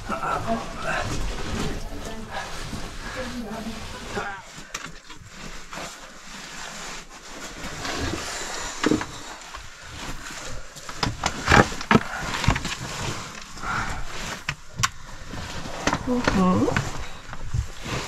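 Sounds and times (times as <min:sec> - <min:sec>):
oversuit rustling against rock: 0:00.0 - 0:18.0.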